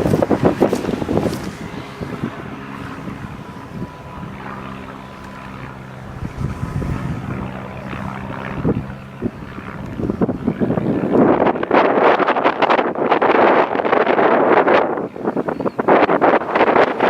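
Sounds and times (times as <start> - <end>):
low engine drone: 0.0 - 17.0
wind buffeting microphone: 0.0 - 17.0.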